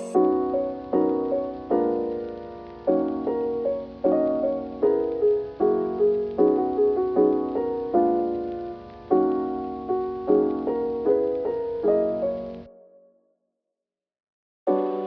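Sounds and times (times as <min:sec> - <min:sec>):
piano chords and notes: 0:00.0 - 0:13.1, 0:14.7 - 0:15.0.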